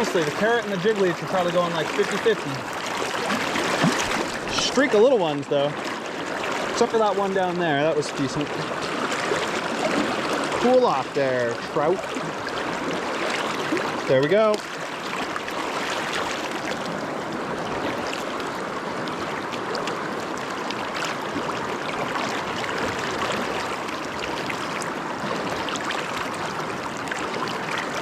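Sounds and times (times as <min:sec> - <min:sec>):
river current rushing: 0:00.0 - 0:28.0.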